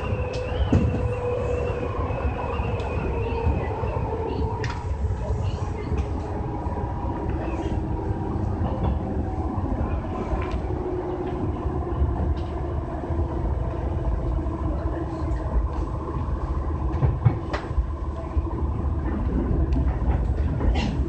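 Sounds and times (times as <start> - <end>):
wheels rumbling on rail: 0.0 - 21.0.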